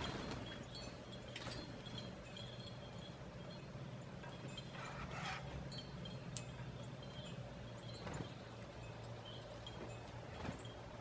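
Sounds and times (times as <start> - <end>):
bird wingbeats whirring: 0.0 - 11.0
steady low hum: 0.0 - 11.0.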